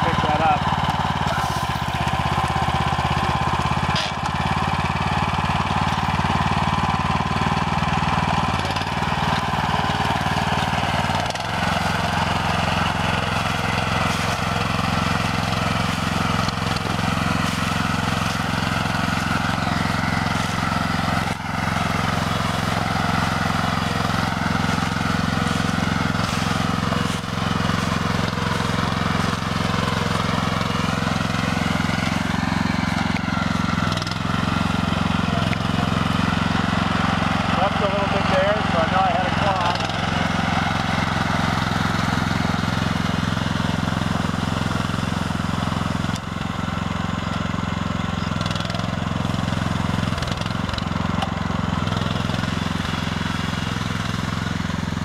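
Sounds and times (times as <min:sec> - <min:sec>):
walk-behind tractor engine running: 0:00.0 - 0:55.0.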